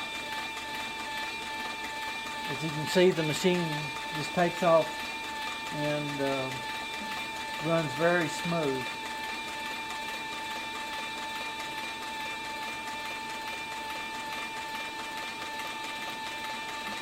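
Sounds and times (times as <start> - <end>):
sewing machine stitching leather: 0.0 - 17.0.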